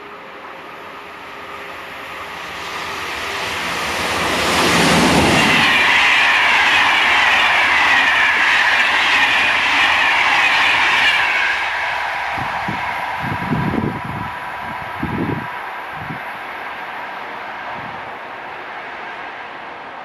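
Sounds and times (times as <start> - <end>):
passenger train passing at speed: 0.0 - 20.0.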